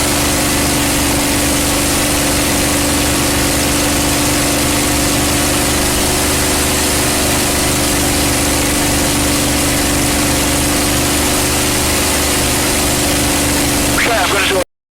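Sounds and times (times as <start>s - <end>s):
aircraft engine drone: 0.0s - 14.7s.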